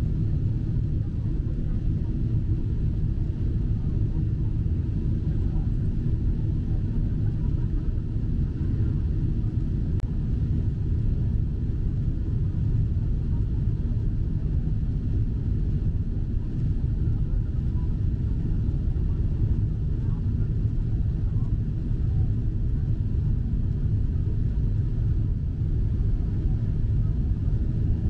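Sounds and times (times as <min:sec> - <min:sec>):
airflow over fuselage: 0:00.0 - 0:28.0
jet engine noise in cabin: 0:00.0 - 0:28.0.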